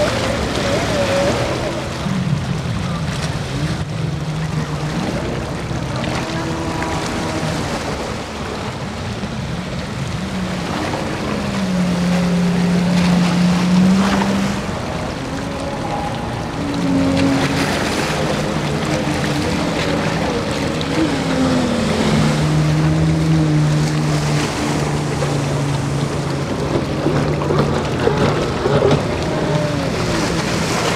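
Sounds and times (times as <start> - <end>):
jet ski engines revving: 0.0 - 30.9
wind: 0.0 - 30.9.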